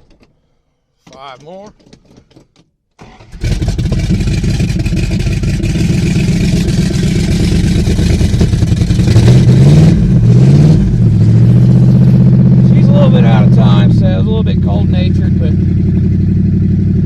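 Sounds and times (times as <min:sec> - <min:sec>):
engine revving: 0:03.0 - 0:17.0
car engine running rough: 0:03.3 - 0:17.0.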